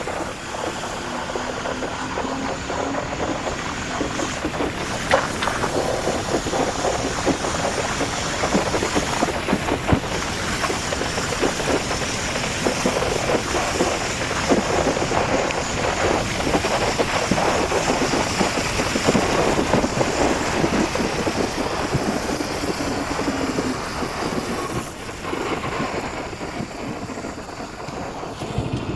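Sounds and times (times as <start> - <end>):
motorcycle engine: 0.0 - 28.9
road noise: 0.0 - 28.9
wind buffeting microphone: 0.0 - 28.9.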